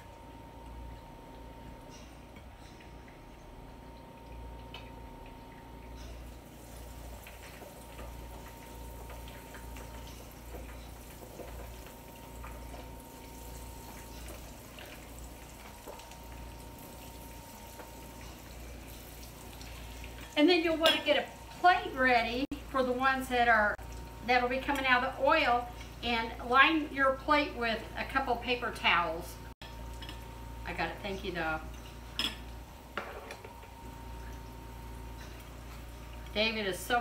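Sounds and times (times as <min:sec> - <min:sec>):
food sizzling in hot oil: 0:06.2 - 0:36.4.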